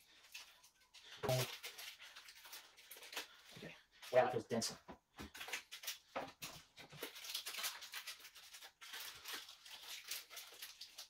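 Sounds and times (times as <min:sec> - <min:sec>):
paper cupcake cases rustling: 0:00.0 - 0:11.0.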